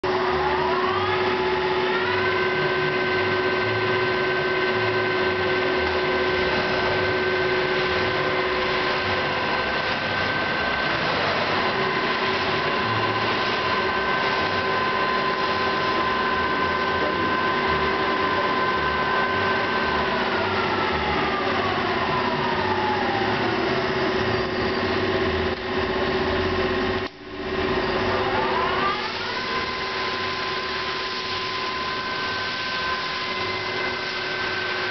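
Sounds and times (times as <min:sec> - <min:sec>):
lathe spindle whine: 0:00.0 - 0:34.9.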